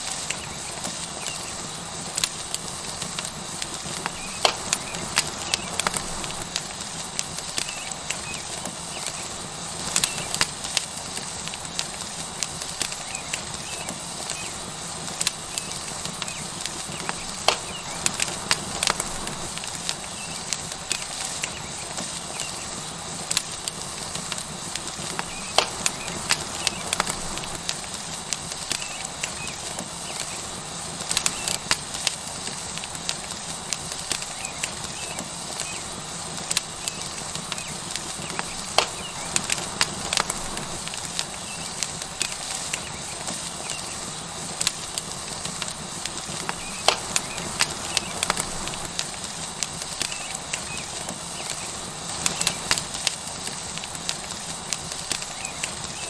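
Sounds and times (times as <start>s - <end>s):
burning wood crackling and popping: 0.0s - 56.0s
steak sizzling on hot rock: 0.0s - 56.0s.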